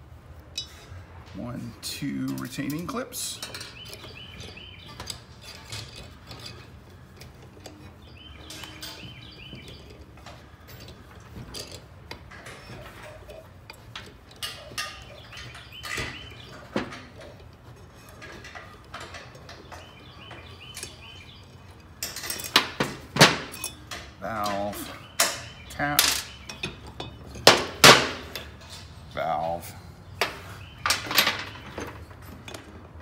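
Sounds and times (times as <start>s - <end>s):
metal clanks: 0.4s - 1.4s, 2.0s - 33.0s
birds chirping: 0.6s - 33.0s
hand tools clicking on metal: 2.0s - 29.0s.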